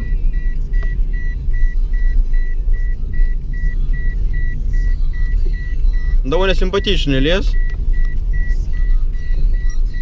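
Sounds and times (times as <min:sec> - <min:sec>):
car rolling rumble: 0:00.0 - 0:10.0
car warning chime beeping: 0:00.0 - 0:10.0.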